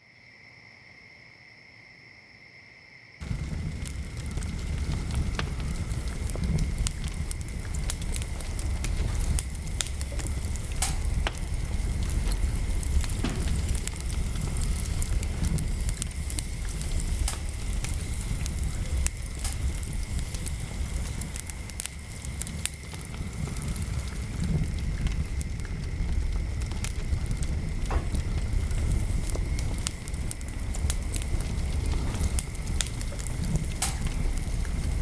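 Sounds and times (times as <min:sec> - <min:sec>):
low rumble: 0:03.2 - 0:35.0
wood fire crackling and popping: 0:03.2 - 0:35.0.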